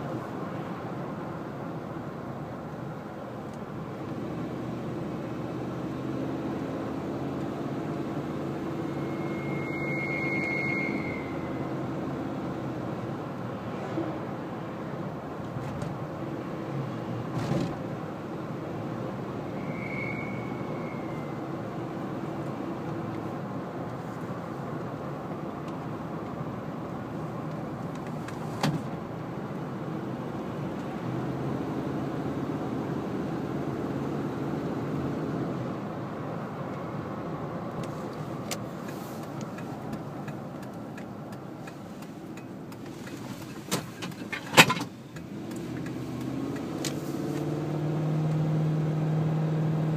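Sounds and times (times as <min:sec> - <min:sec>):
car engine humming: 0:00.0 - 0:49.9.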